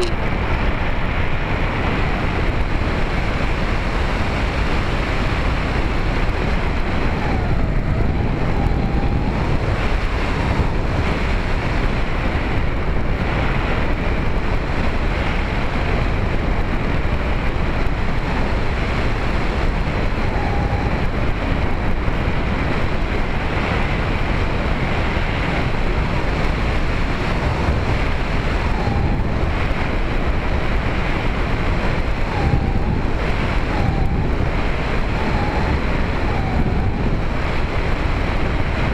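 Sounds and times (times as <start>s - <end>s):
airflow rushing over camera: 0.0s - 38.9s
faint whine: 0.0s - 38.9s
electric motor and propeller drone: 1.8s - 13.5s, 14.1s - 38.9s.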